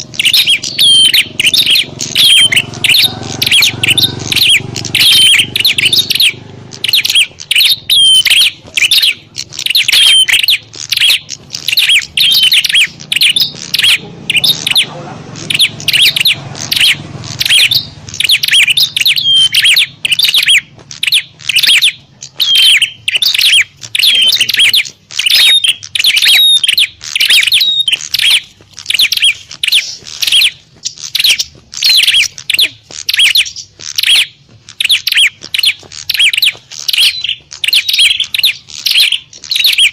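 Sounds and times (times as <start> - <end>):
bird loud sharp chirps: 0.0 - 39.9.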